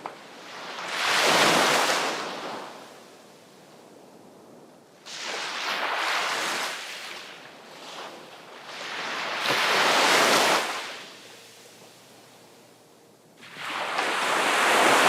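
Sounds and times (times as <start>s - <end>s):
sea waves breaking on shore: 0.0s - 12.7s, 13.4s - 15.0s.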